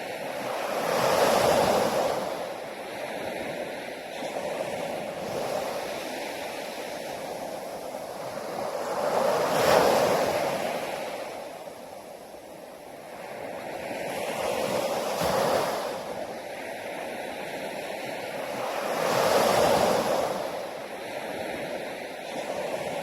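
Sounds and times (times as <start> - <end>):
sea waves breaking on beach: 0.0 - 23.0.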